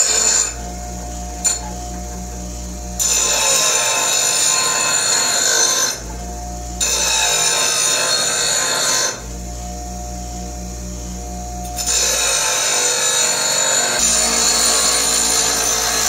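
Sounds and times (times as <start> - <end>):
metal grinding on wheel: 0.0 - 6.1, 6.8 - 9.2, 11.6 - 16.0
bench grinder motor hum: 0.0 - 16.0.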